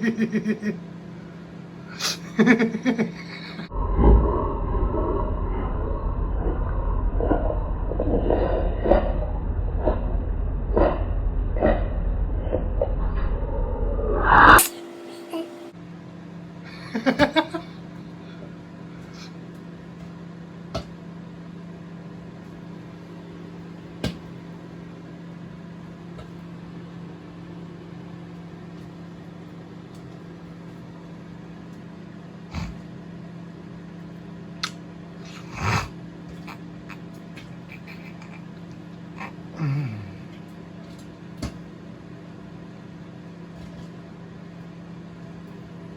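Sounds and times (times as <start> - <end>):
microwave oven humming: 0.0 - 45.9.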